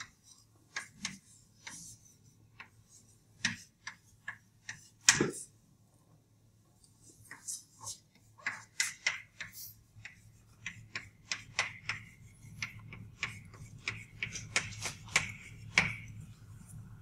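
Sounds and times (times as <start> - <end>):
chalk scratching: 0.0 - 5.6, 6.8 - 16.9
chalk tapping on chalkboard: 0.0 - 5.6, 7.0 - 16.2.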